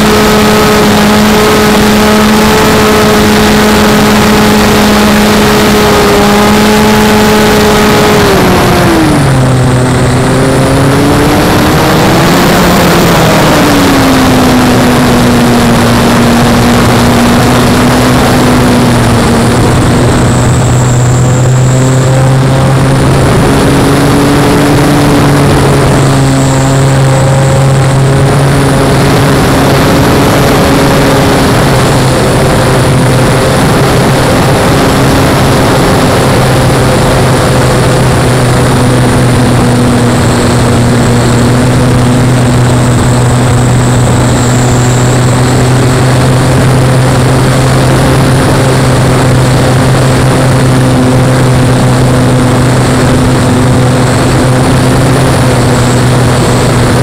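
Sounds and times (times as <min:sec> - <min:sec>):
model plane engine running: 0:00.0 - 0:57.0.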